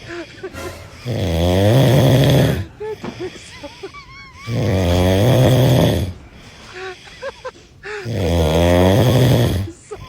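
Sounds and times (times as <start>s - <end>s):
man snoring: 0.0s - 9.8s.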